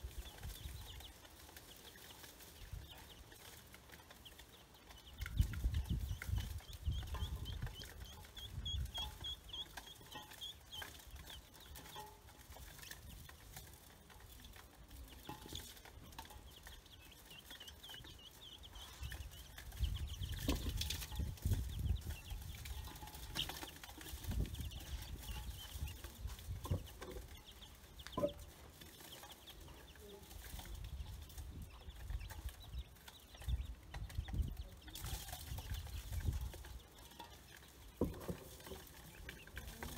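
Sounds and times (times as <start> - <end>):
chicks and ducklings peeping: 0.0 - 39.9.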